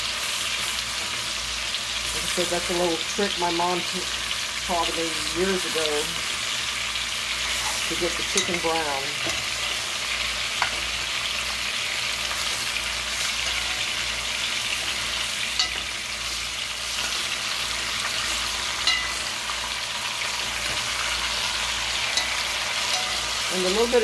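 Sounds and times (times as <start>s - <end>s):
chicken sizzling in a pot: 0.0s - 24.0s.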